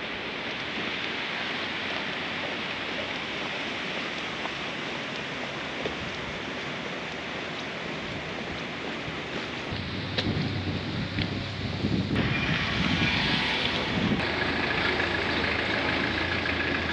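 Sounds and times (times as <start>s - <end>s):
fast-flowing river water: 0.0s - 16.9s.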